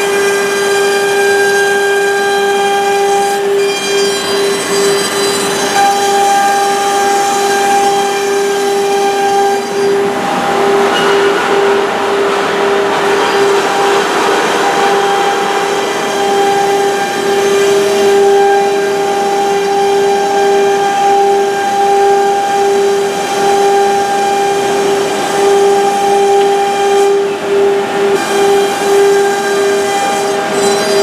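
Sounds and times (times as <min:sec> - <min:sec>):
woodworking machine whining: 0:00.0 - 0:31.0.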